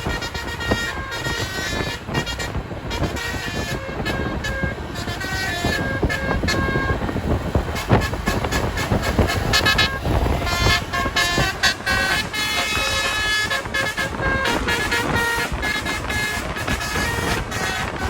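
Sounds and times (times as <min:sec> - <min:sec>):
bus horn playing a tune: 0:00.0 - 0:18.0
engine and road rumble: 0:00.0 - 0:18.0.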